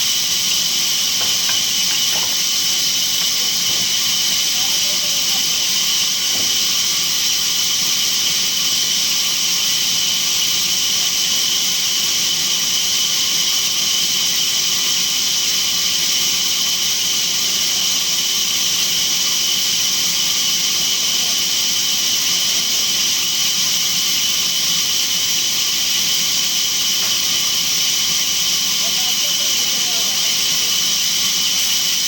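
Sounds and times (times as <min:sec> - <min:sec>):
sawmill saw whining hiss: 0:00.0 - 0:32.0.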